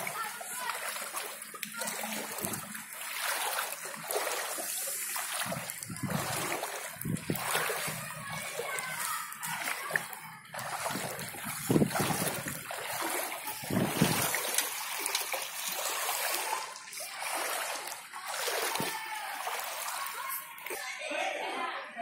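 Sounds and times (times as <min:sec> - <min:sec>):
rain falling on water: 0:00.0 - 0:20.3
floodwater splashing and trickling: 0:00.0 - 0:20.9.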